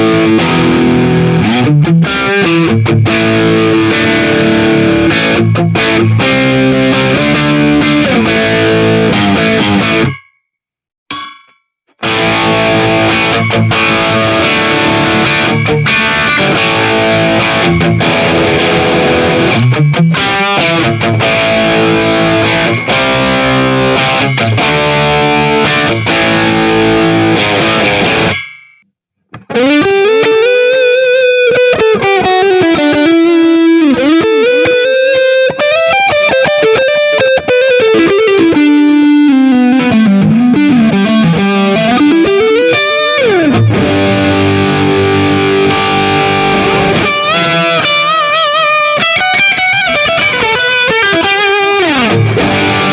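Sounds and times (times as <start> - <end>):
distorted electric guitar: 0.0 - 10.4, 11.1 - 52.9.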